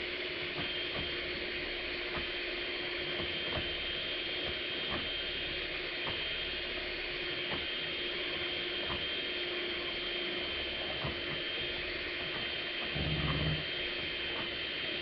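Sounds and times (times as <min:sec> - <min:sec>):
electric hand mixer whining: 0:02.7 - 0:15.0.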